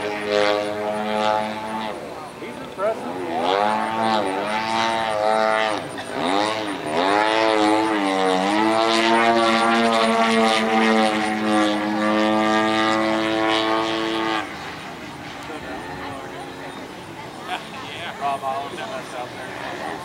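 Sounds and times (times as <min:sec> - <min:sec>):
model plane engine and propeller: 0:00.0 - 0:20.0.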